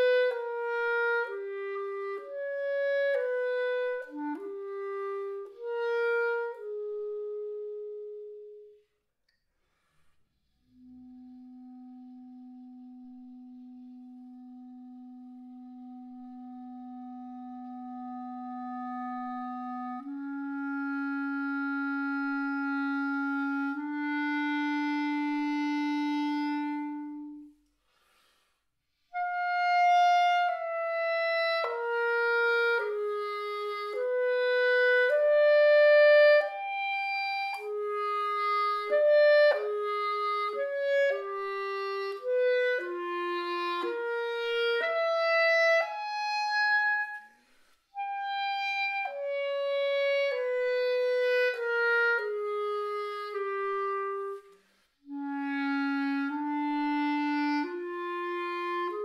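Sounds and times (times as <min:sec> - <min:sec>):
solo clarinet melody: 0:00.0 - 0:09.0, 0:10.4 - 0:59.0.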